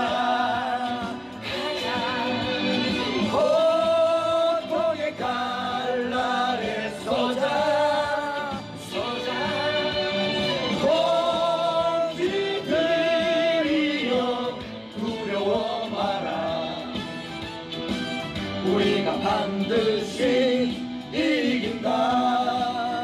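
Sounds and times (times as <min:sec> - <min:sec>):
musical accompaniment: 0:00.0 - 0:23.0
voices singing slow melody: 0:00.0 - 0:23.0.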